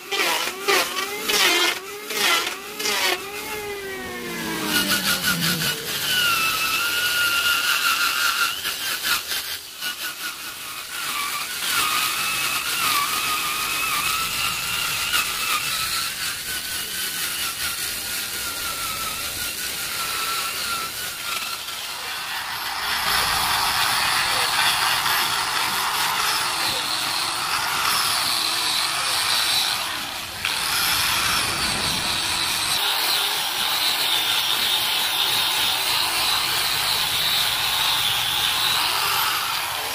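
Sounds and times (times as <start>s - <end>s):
angle grinder sanding: 0.0s - 39.9s
drill sanding wood: 0.0s - 39.9s.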